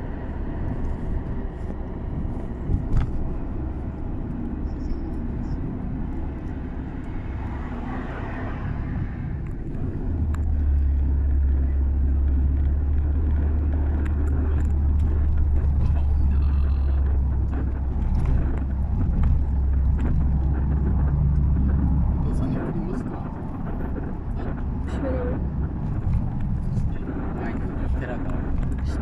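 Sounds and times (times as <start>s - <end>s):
vehicle rumble and road noise: 0.0s - 29.0s.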